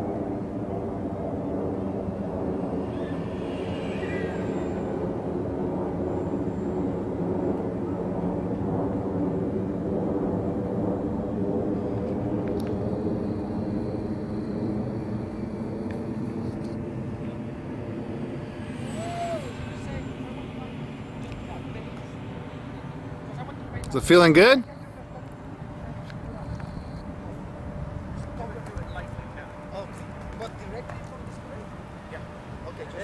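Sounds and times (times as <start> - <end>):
model airplane motor drone: 0.0 - 33.0.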